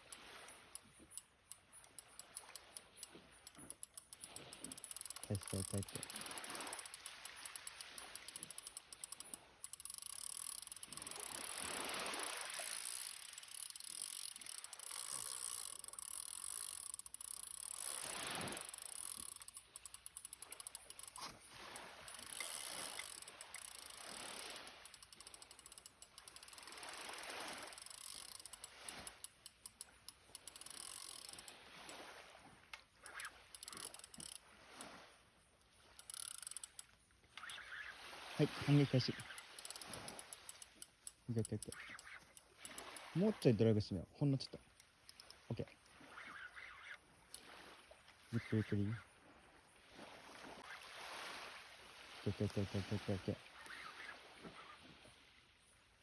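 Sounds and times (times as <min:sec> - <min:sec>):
fishing reel drag clicking: 0:00.0 - 0:43.8, 0:44.6 - 0:48.9, 0:52.3 - 0:54.8.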